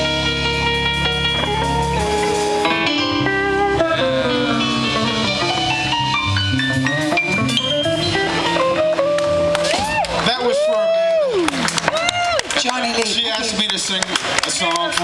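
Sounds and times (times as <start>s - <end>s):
electric bass: 0.0s - 12.4s
electric guitar lead: 0.0s - 12.4s
drums: 0.0s - 15.0s
keyboard: 0.0s - 15.0s.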